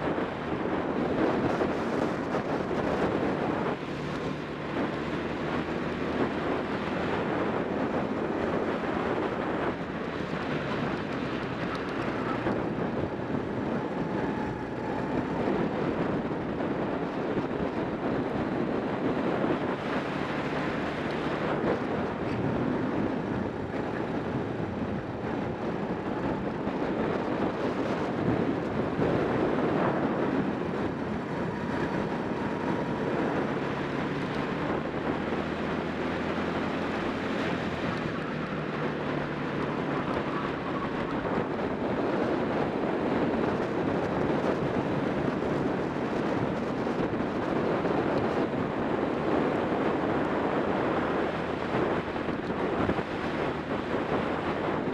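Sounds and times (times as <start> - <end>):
kart engine at speed: 0.0 - 54.9
wind noise on microphone: 0.0 - 54.9.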